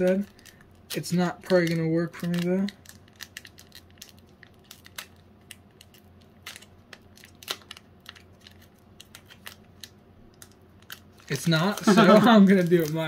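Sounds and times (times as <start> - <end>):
foil pack crinkling and clicking: 0.0 - 13.0.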